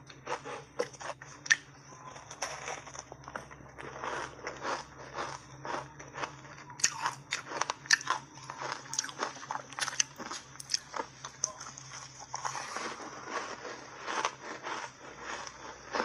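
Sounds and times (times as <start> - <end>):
ice crunching while chewed: 0.0 - 16.0.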